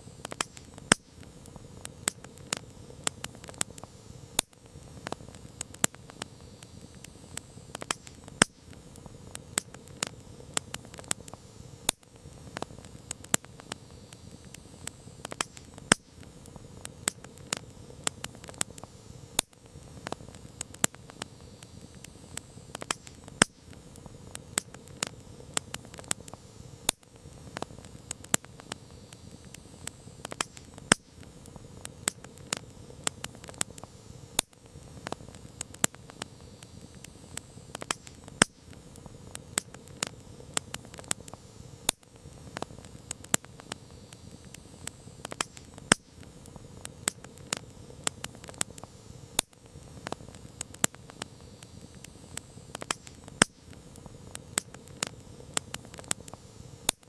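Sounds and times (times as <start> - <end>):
campfire crackling and popping: 0.0 - 57.0
low hiss: 0.0 - 57.0.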